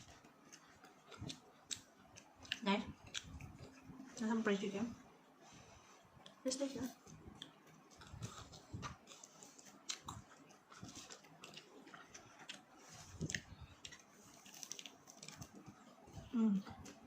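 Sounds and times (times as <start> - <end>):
crunchy chewing: 0.0 - 4.2, 7.0 - 17.0.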